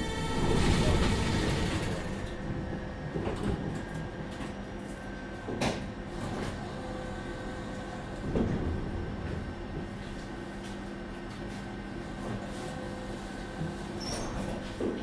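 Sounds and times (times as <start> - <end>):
tram electrical hum: 0.0 - 15.0.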